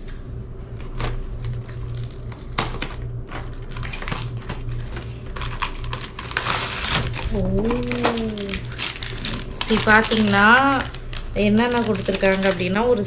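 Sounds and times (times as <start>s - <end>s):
steady low hum: 0.0s - 13.0s
small items clicking and rattling: 1.9s - 13.0s.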